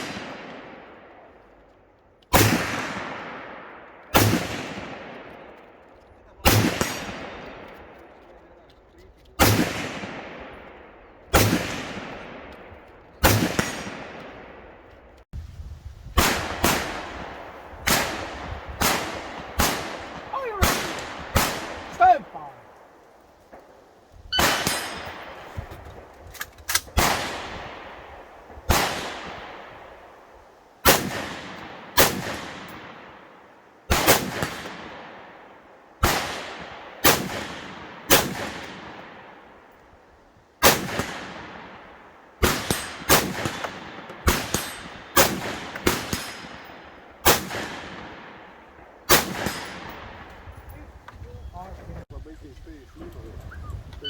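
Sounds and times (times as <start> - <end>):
rifle shots echoing: 0.0 - 1.4, 2.3 - 8.2, 9.4 - 15.0, 16.2 - 23.7, 24.3 - 26.1, 26.7 - 39.8, 40.6 - 50.7.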